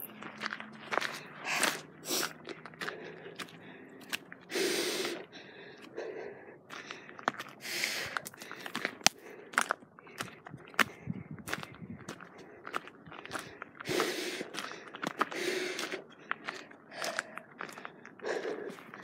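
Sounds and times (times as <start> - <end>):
footsteps on gravel: 0.0 - 19.0.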